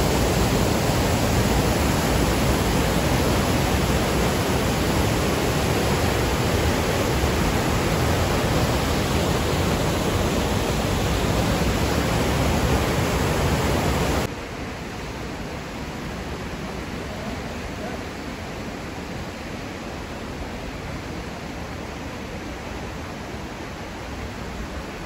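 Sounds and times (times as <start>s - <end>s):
whitewater rapids rushing: 0.0s - 25.0s.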